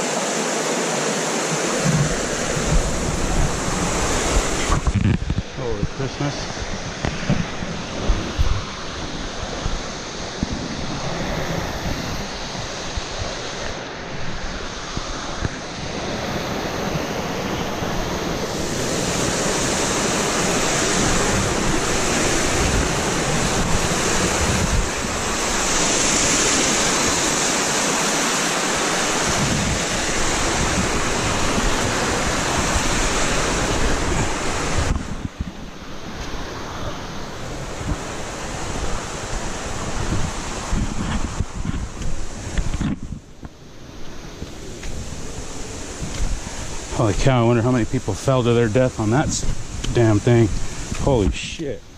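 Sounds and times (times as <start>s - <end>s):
waterfall rushing: 0.0s - 42.8s, 43.7s - 51.9s.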